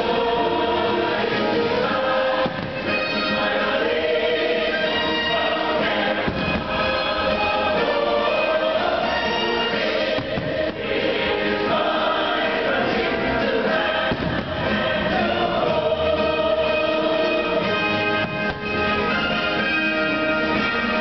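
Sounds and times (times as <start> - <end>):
choral music over loudspeakers: 0.0 - 21.0.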